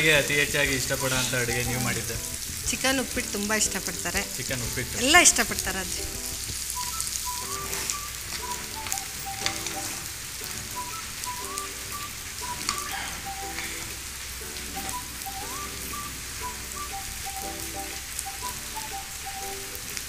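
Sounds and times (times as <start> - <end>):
light background melody: 0.0 - 20.0
onions sizzling in hot oil: 0.0 - 20.0.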